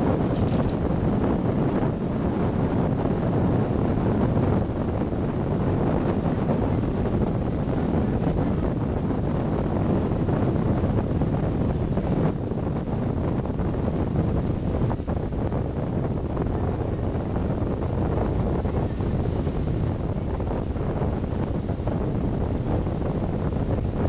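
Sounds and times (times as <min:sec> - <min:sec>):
boat moving through water: 0:00.0 - 0:24.0
wind buffeting microphone: 0:00.0 - 0:24.0.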